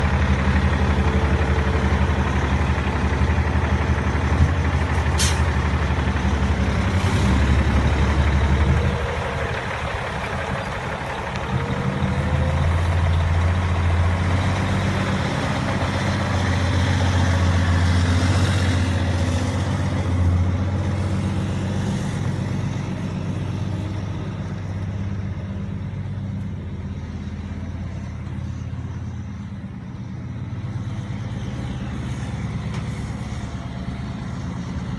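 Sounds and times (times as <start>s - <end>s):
truck diesel engine droning: 0.0s - 34.9s.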